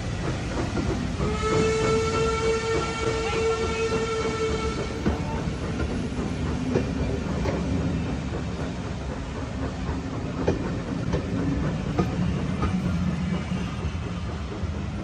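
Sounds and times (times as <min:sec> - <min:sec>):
rail vehicle rumbling: 0:00.0 - 0:15.0
wheels clicking over rail joints: 0:00.0 - 0:15.0.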